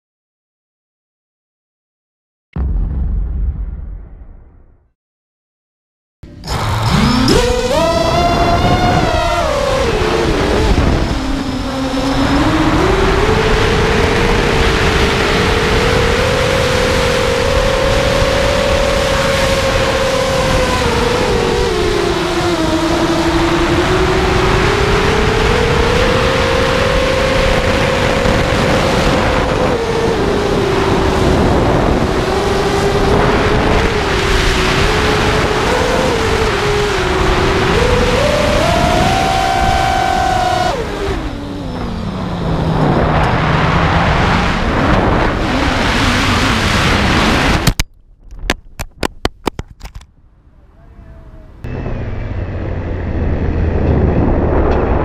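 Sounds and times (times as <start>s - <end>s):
drone motors whining: 6.3s - 47.8s, 51.3s - 55.0s
wind noise: 6.4s - 55.0s.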